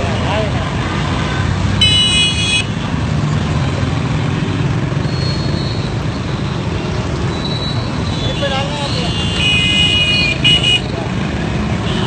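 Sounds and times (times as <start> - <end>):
city street traffic: 0.0 - 12.0
motorcycle and car engines: 0.0 - 12.0.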